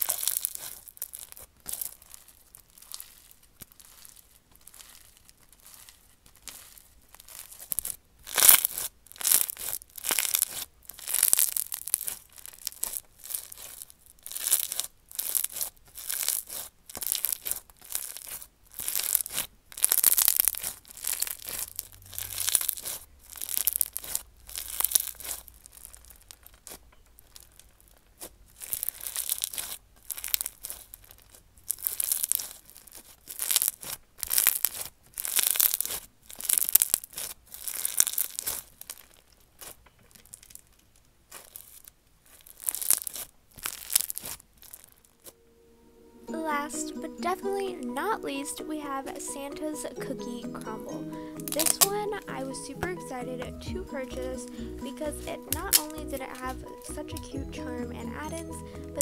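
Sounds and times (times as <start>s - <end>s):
slime crackling: 0.0s - 45.4s, 46.5s - 57.3s.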